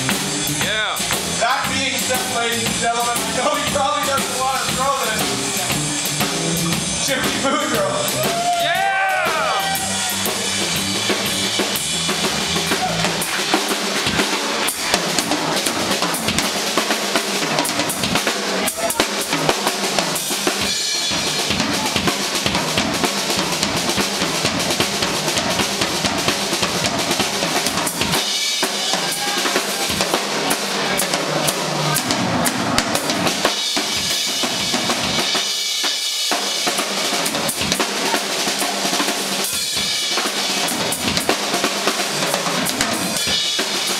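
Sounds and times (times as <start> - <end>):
drum solo: 0.0 - 43.9.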